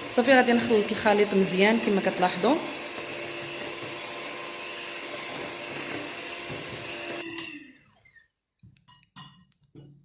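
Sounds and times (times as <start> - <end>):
electric mixer whining: 0.0 - 8.2.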